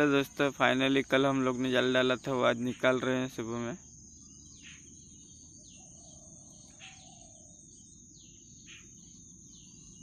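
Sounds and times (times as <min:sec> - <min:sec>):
falling bird chirps: 0:00.0 - 0:10.0
high-pitched insect drone: 0:00.0 - 0:10.0.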